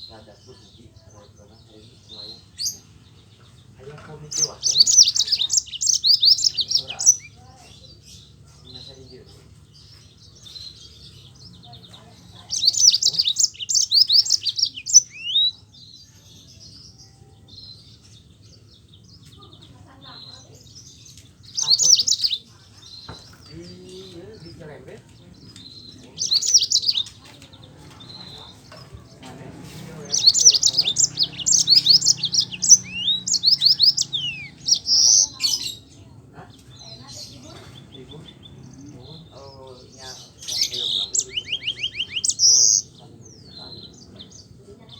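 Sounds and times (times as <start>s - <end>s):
canary singing: 0.0s - 44.9s
quiet bird twittering: 0.0s - 44.9s.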